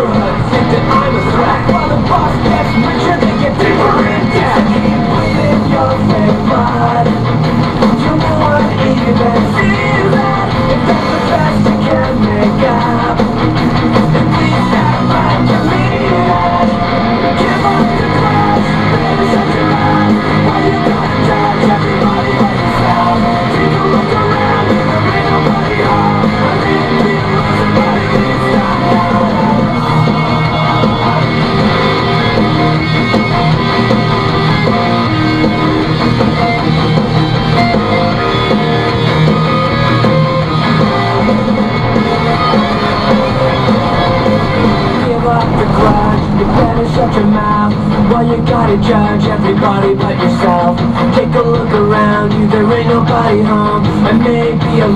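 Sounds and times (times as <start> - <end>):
rock music on car radio: 0.0 - 54.9.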